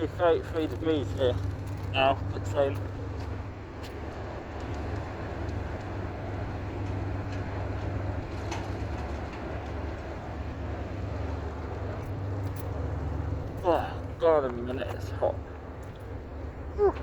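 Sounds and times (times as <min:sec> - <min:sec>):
low engine hum: 0:00.0 - 0:17.0
outdoor background noise: 0:00.0 - 0:17.0.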